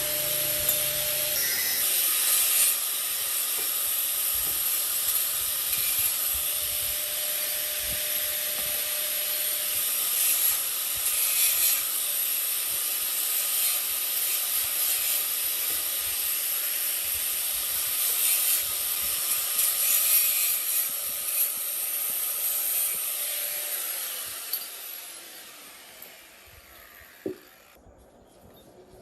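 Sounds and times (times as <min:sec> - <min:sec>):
power tool grinding metal: 0:00.0 - 0:27.8.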